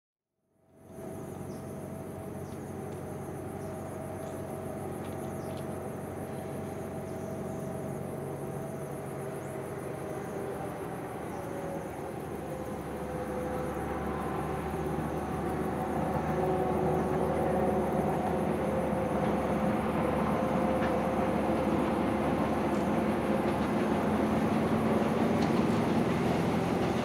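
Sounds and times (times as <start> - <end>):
diesel locomotive droning: 0.6 - 27.0
insects chirring: 0.7 - 27.0.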